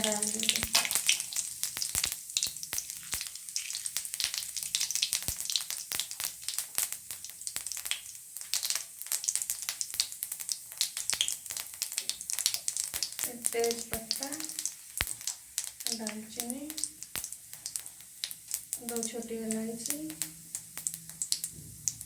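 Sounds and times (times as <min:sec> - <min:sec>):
seeds sizzling in hot oil: 0:00.0 - 0:22.0.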